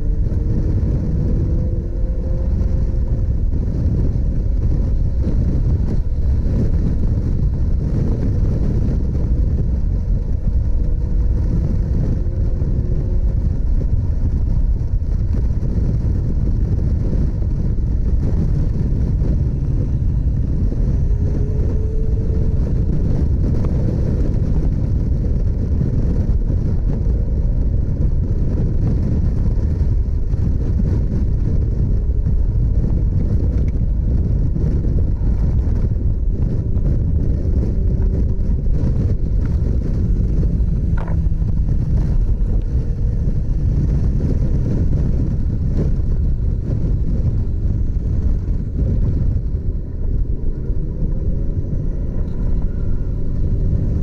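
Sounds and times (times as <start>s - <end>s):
low wind rumble: 0.0s - 54.0s
motorcycle engine running: 0.0s - 54.0s.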